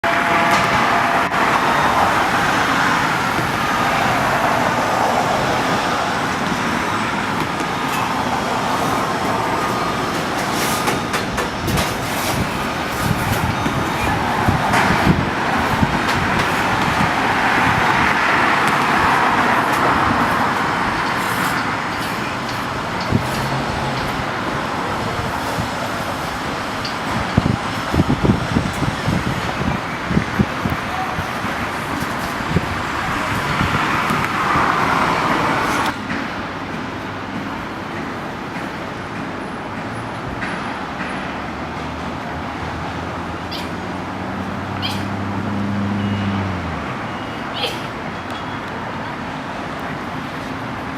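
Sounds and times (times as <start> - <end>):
hum of vehicles and machinery: 0.0 - 50.9.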